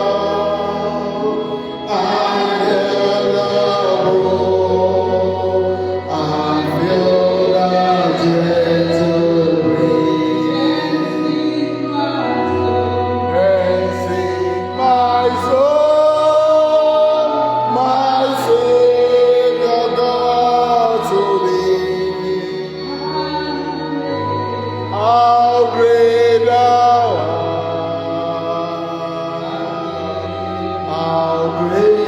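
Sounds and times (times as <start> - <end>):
voices singing held notes: 0.0 - 32.0.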